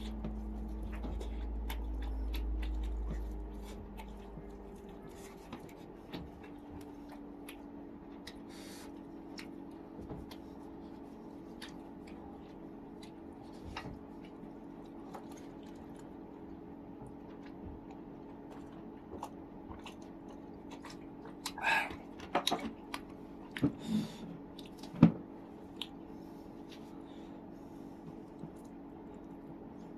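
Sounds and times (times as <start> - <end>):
wet chewing: 0.0 - 23.8, 24.4 - 27.2, 28.0 - 29.9
steady low hum: 0.0 - 29.9.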